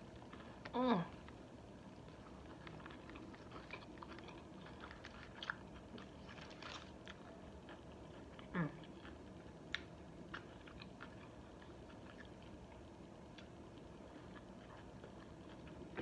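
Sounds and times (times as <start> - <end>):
chewing sandwich: 0.0 - 16.0.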